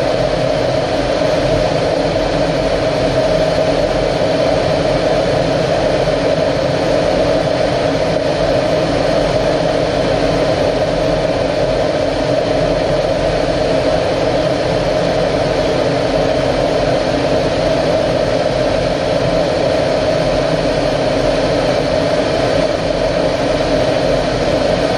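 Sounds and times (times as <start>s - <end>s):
jet engine drone: 0.0s - 24.9s.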